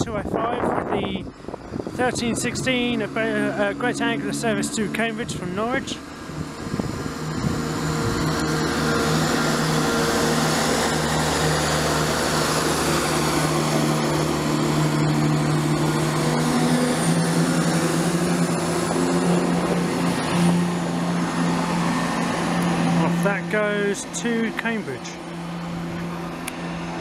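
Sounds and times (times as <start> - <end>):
train diesel engine drone: 0.0 - 27.0
wheel and rail noise: 0.0 - 27.0.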